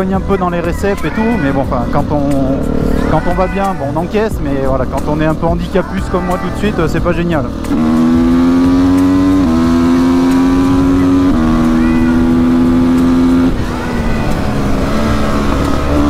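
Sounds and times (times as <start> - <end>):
motorcycle engine running hard: 0.0 - 16.0.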